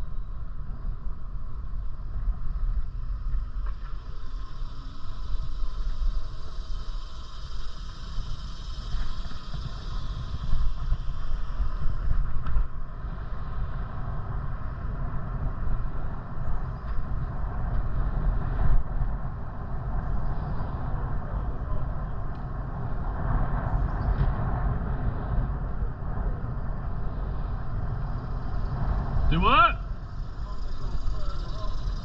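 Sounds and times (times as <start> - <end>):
road noise: 0.0 - 32.0
wind rumbling over microphone: 0.0 - 32.0.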